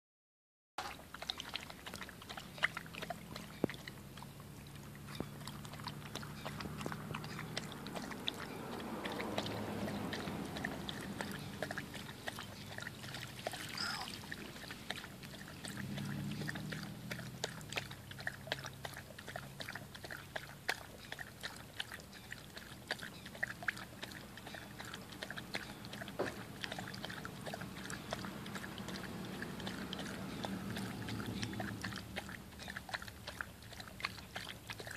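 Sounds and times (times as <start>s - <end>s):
garden hose water running: 0.8s - 34.9s
puppy lapping water: 0.8s - 34.9s.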